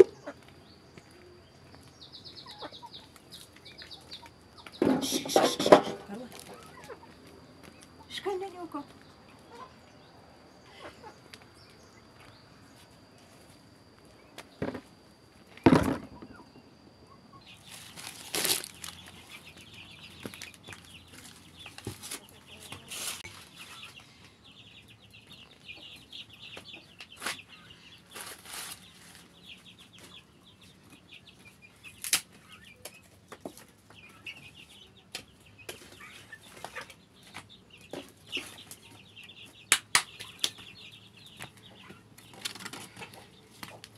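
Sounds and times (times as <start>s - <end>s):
chickens clucking: 0.0s - 13.7s, 15.8s - 43.9s.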